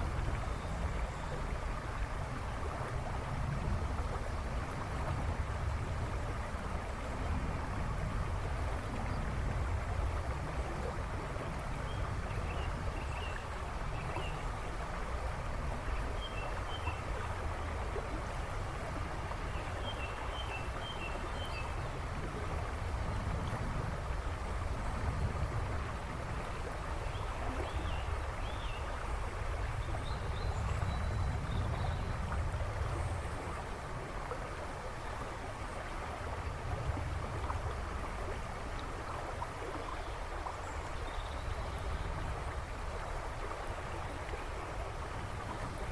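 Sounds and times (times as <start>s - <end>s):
river rushing over stones: 0.0s - 45.9s.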